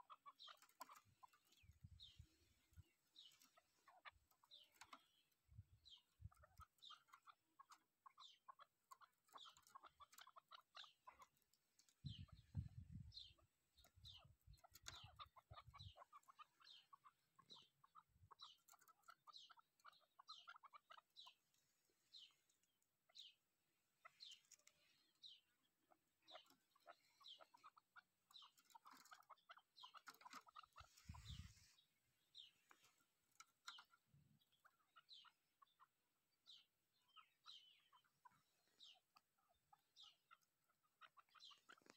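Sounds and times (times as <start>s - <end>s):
partridge clucking and chirping: 0.0s - 41.9s.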